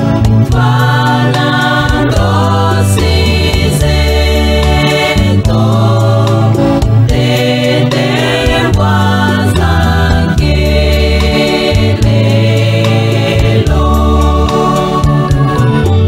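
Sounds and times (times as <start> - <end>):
choir singing gospel: 0.0 - 16.0
low bass line: 0.0 - 16.0
steady drum beat: 0.1 - 16.0.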